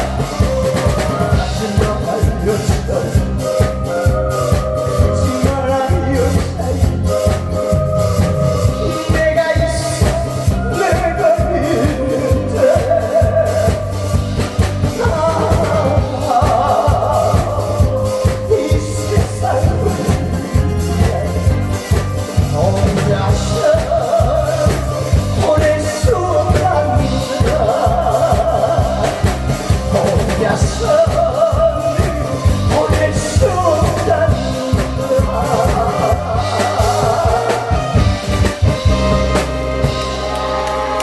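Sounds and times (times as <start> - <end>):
person singing: 0.0 - 41.0
steady drum beat: 0.0 - 41.0.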